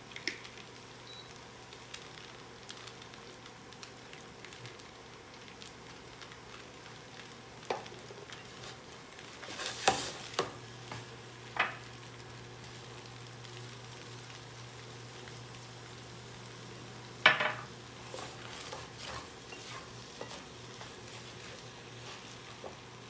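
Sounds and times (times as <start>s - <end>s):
food sizzling in a frying pan: 0.0s - 23.0s
low steady hum: 0.0s - 23.0s.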